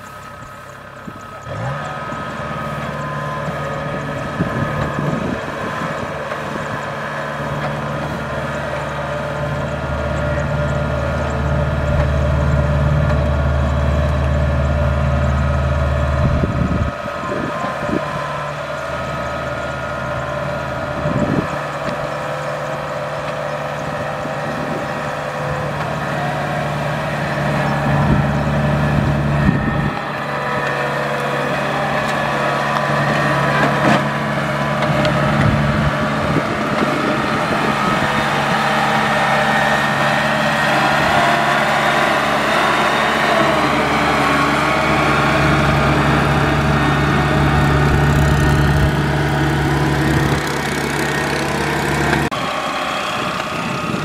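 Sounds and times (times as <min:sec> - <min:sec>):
combine harvester engine humming: 0:00.0 - 0:54.0
machinery rattling: 0:00.0 - 0:54.0.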